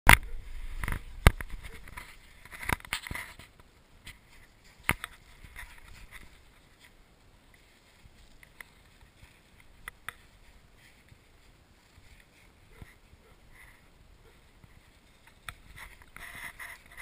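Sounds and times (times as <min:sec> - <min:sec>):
footsteps crunching snow: 0:00.1 - 0:17.0.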